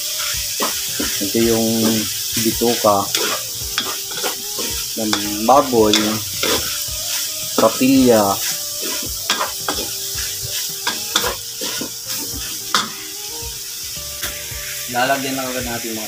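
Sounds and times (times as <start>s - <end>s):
meat sizzling in a wok: 0.0s - 16.0s
spatula scraping metal pan: 0.1s - 13.2s.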